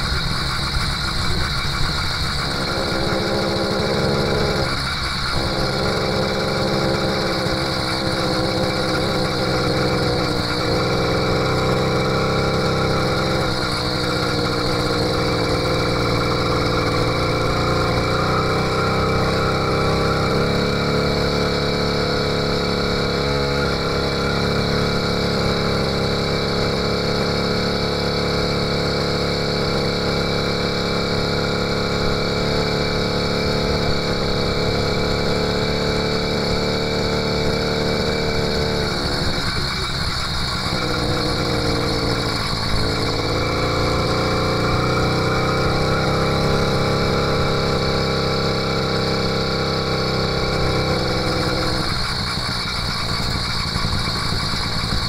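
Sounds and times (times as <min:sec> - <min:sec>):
two-stroke bicycle engine buzzing: 0:00.0 - 0:55.0.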